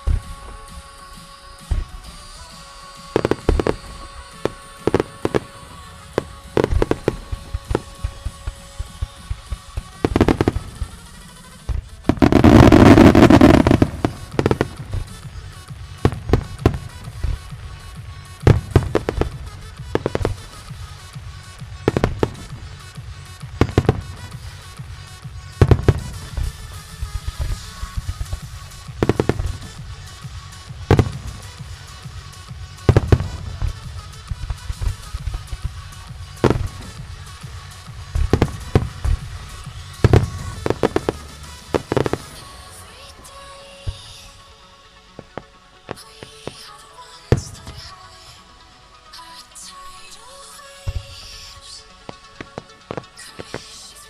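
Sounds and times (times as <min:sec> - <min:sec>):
fireworks bursting and booming: 0:00.0 - 0:49.3, 0:50.0 - 0:54.0
fireworks crackle: 0:00.0 - 0:54.0
music playing: 0:00.0 - 0:54.0.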